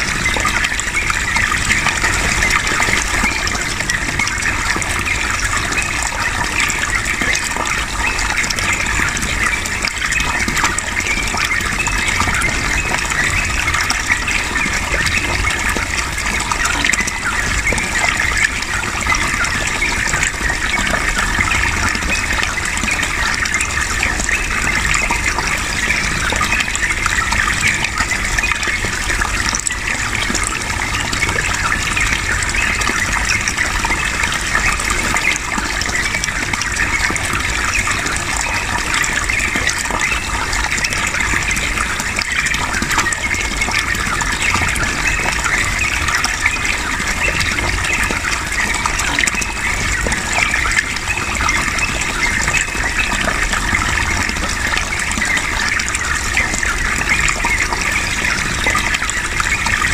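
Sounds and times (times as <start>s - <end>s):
flowing water rushing: 0.0s - 59.9s.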